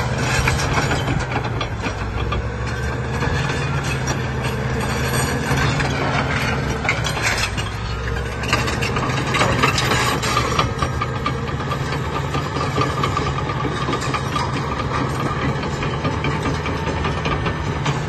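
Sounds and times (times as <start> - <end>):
diesel engine under load: 0.0 - 18.0
steel tracks clanking: 0.0 - 18.0.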